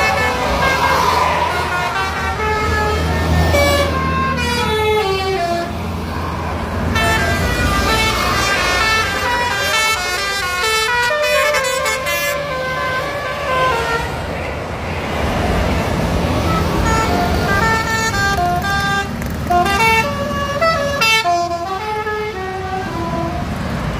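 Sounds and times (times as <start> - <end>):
bus air horn playing melody: 0.0 - 5.9, 6.9 - 14.2, 16.4 - 23.6.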